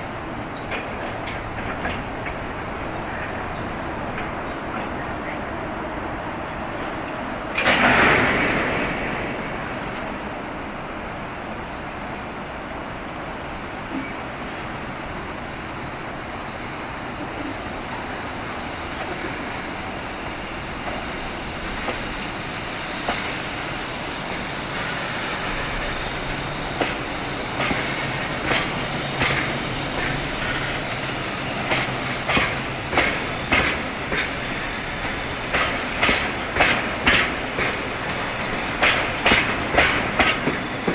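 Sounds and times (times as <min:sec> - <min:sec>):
wheels clacking over rail joints: 0:00.0 - 0:10.4, 0:17.4 - 0:40.9
train rumbling: 0:00.0 - 0:40.9.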